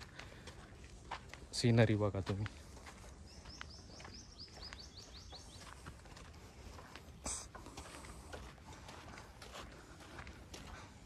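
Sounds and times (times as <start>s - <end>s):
footsteps on dirt trail: 0.0s - 11.0s.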